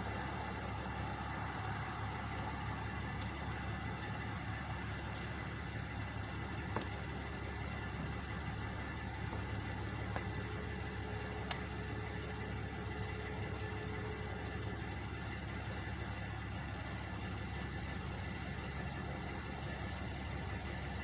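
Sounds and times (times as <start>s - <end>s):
truck engines idling: 0.0s - 21.0s.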